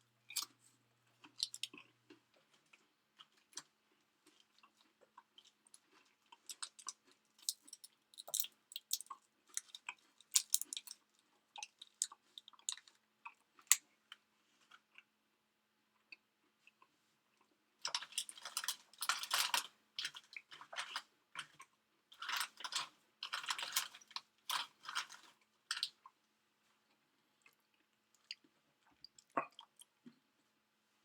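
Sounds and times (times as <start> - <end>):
person chewing food: 0.2 - 15.2, 15.9 - 30.4.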